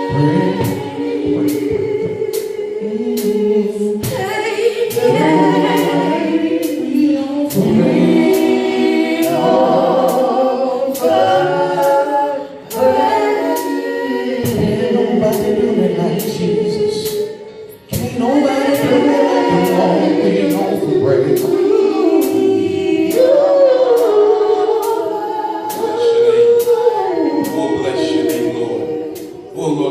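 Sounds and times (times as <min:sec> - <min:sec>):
gospel choir singing: 0:00.0 - 0:29.9
sharp steady beat: 0:00.0 - 0:29.9.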